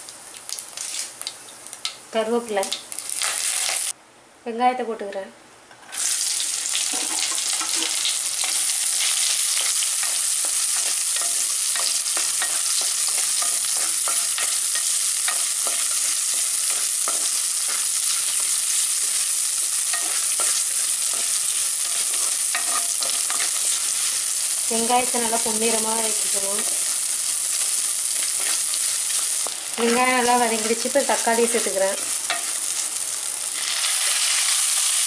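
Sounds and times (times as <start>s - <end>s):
food sizzling in hot oil: 0.0s - 4.0s, 5.9s - 35.0s.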